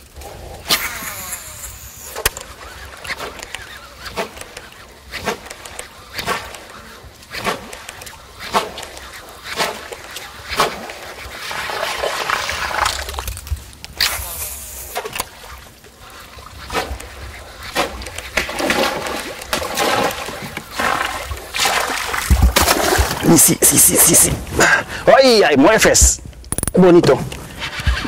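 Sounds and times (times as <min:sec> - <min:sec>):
lure splashing on water: 0:00.6 - 0:24.2.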